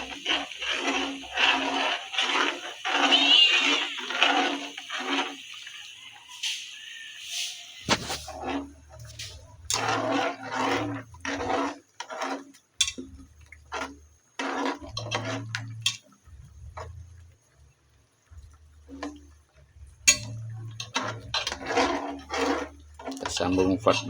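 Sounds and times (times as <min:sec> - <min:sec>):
metal utensils scraping cooking pot: 0:00.0 - 0:17.7, 0:18.3 - 0:24.0.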